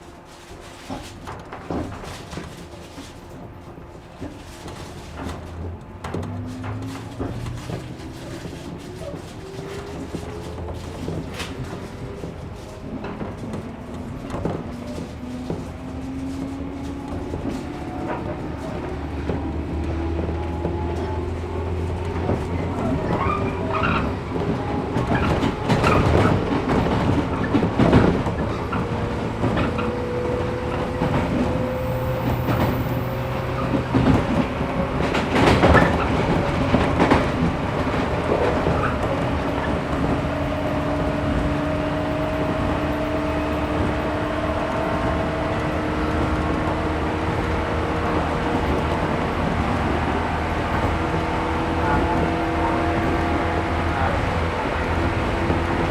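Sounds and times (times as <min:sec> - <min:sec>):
wheel and rail rumble: 0:00.0 - 0:55.9
wheels clacking over rail joints: 0:00.0 - 0:55.9.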